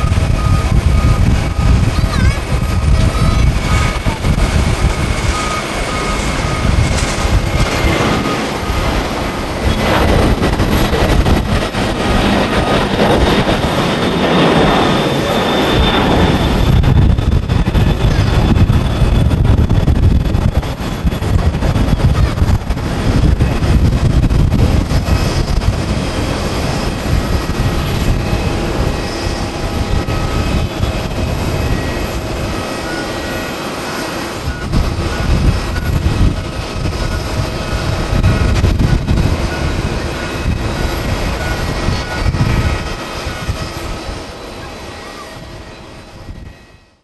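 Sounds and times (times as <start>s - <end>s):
jet engines rumbling at takeoff: 0.0s - 47.0s.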